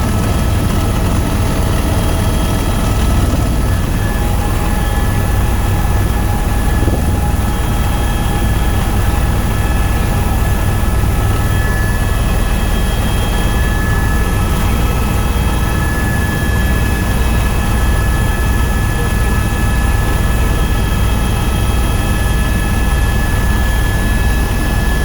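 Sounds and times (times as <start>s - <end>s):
helicopter rotor and engine drone: 0.0s - 25.0s
high turbine whine: 0.0s - 25.0s.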